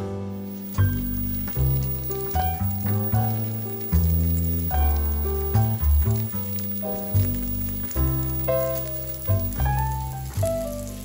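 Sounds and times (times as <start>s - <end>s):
jazz music with piano and bass: 0.0s - 11.0s
chicken sizzling in frying pan: 0.4s - 11.0s.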